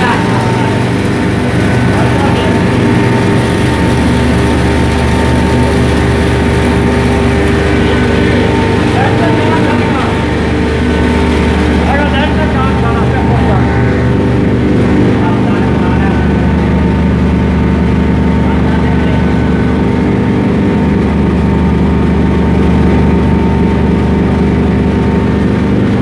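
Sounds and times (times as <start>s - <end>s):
flour mill droning: 0.0s - 26.0s.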